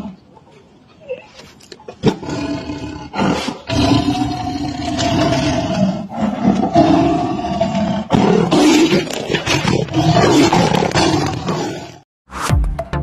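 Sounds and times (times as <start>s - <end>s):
tiger roaring: 1.0s - 12.0s.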